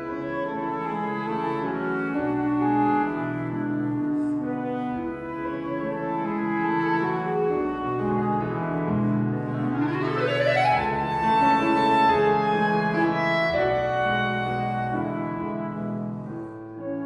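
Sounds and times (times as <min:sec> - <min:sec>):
flute clarinet and piano trio: 0:00.0 - 0:17.0.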